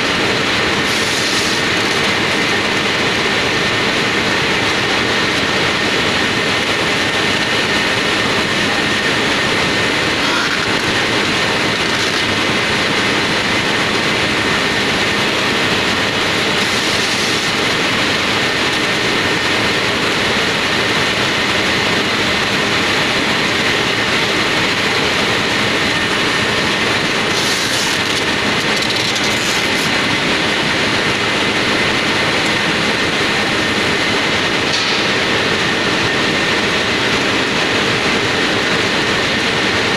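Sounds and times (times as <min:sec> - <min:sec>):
industrial machinery running: 0:00.0 - 0:39.9.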